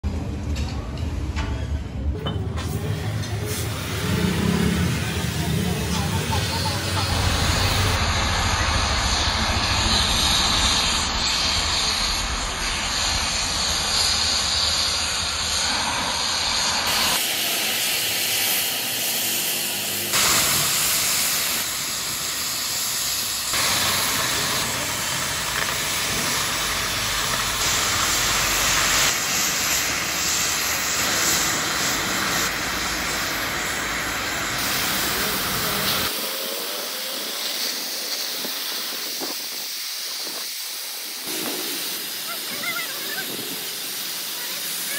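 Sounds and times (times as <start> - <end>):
cutting torches hissing: 2.5 - 44.9.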